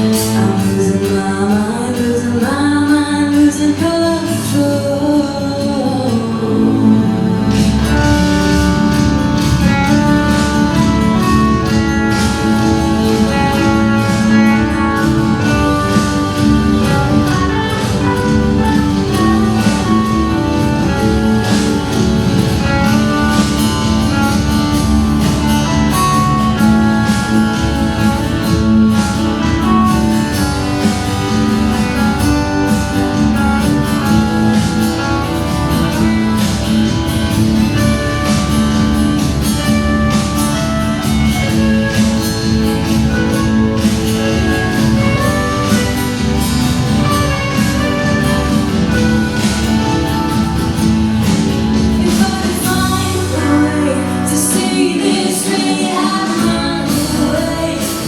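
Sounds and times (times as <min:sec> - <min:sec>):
guitar: 0:00.0 - 0:58.0
live band playing: 0:00.0 - 0:58.0.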